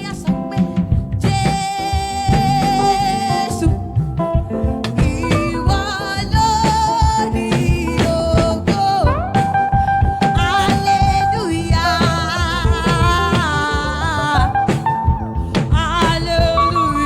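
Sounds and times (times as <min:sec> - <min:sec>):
drums and backing instruments: 0:00.0 - 0:17.0
person singing long vibrato notes: 0:00.0 - 0:17.0.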